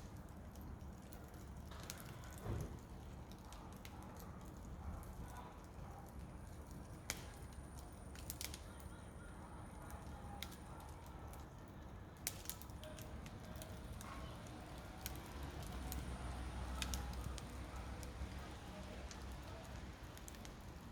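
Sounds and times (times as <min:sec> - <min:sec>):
wood fire crackling and popping: 0:00.0 - 0:20.9.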